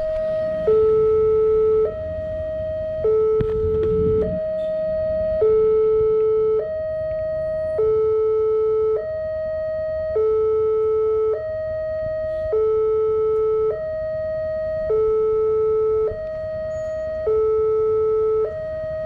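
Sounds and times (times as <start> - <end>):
two-tone level crossing alarm: 0.0 - 19.0.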